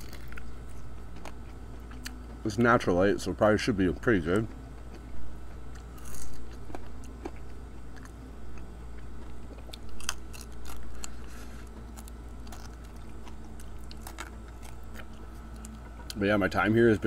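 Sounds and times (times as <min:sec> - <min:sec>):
chewing: 0:00.0 - 0:02.2, 0:04.0 - 0:16.2
crunching chicken wing: 0:00.0 - 0:02.8, 0:03.9 - 0:16.6.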